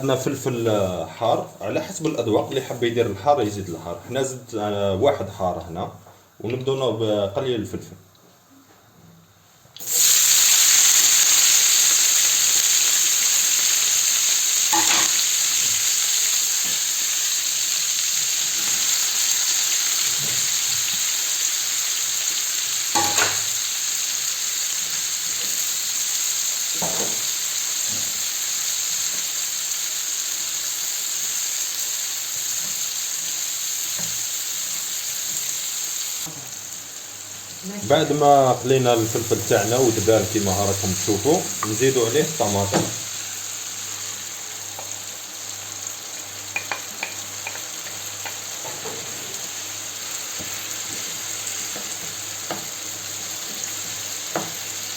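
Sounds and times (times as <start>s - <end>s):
peppers sizzling in hot oil: 0.0s - 3.5s, 9.8s - 54.9s.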